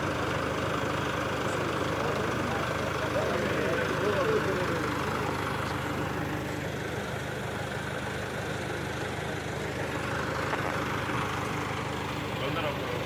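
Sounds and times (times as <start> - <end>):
truck engine driving past: 0.0 - 13.0.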